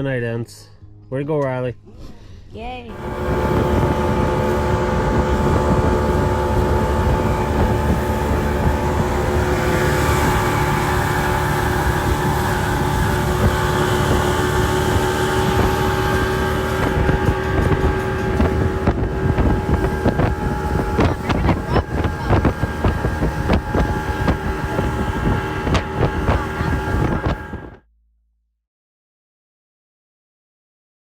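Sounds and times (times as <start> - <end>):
motorboat engine running: 2.9 - 27.8
wind buffeting microphone: 2.9 - 27.8.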